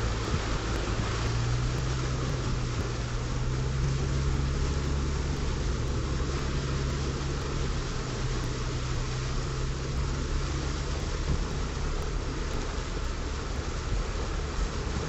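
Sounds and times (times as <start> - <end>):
constant low hum: 0.0 - 15.0
floodwater rushing: 0.0 - 15.0.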